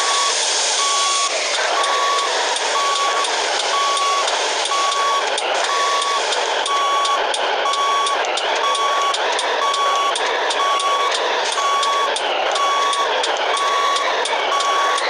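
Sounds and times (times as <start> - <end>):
truck reversing alarm beeping: 0.0 - 15.0.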